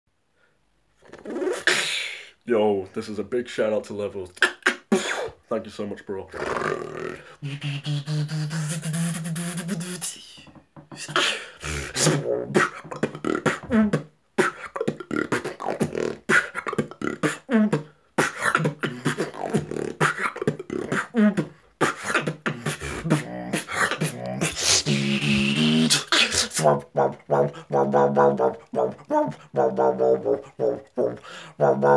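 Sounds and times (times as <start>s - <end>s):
beatboxing: 1.0s - 2.2s, 4.3s - 5.4s, 6.3s - 31.9s.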